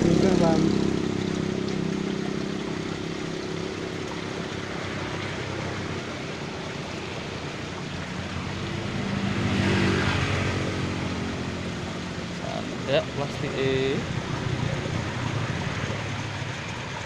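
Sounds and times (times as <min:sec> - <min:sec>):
engine humming: 0:00.0 - 0:17.0
stream water running: 0:00.0 - 0:17.0.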